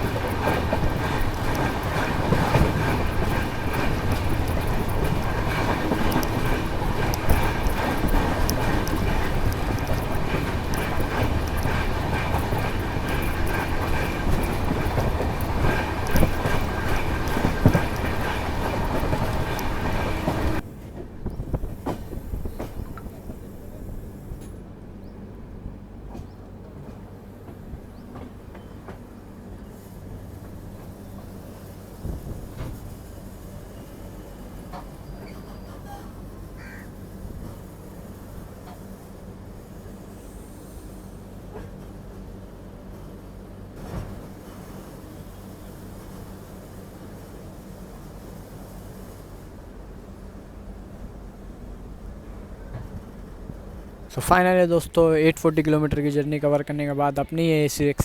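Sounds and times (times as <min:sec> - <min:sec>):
train wheels clicking over rail joints: 0:00.0 - 0:24.7, 0:26.0 - 0:49.6.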